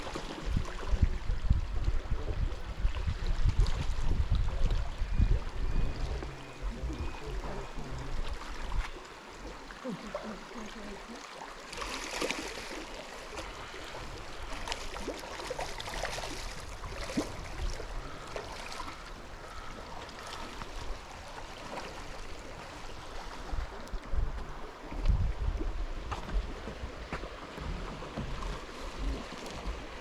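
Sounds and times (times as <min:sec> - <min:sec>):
stream water flowing: 0:00.0 - 0:30.0.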